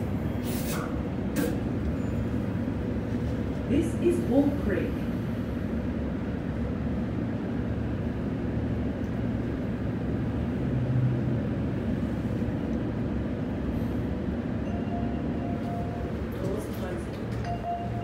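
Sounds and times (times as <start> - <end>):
train carriage low rumble: 0.0 - 18.0.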